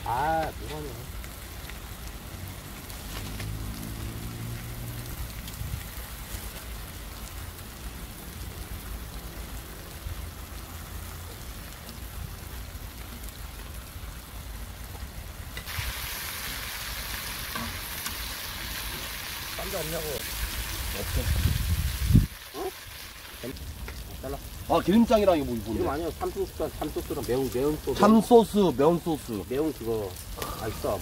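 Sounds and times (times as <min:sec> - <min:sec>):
crackles and spits: 0:00.0 - 0:31.0
meat sizzling on a grill: 0:00.0 - 0:31.0.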